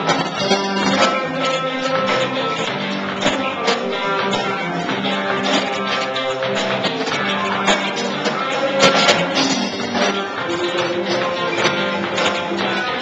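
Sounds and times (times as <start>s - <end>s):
live band playing: 0.0s - 13.0s
strummed guitar: 0.0s - 13.0s.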